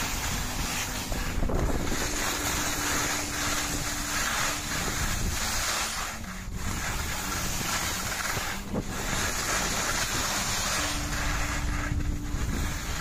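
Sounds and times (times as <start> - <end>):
skis scraping over snow: 0.0 - 13.0
wind rushing over microphone: 0.0 - 13.0.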